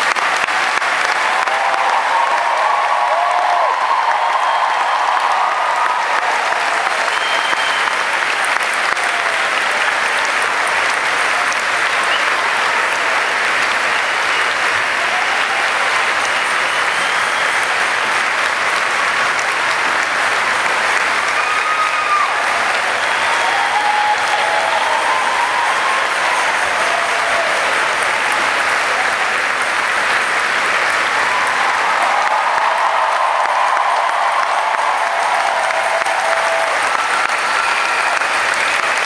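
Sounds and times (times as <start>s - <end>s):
large audience applauding: 0.0s - 39.0s.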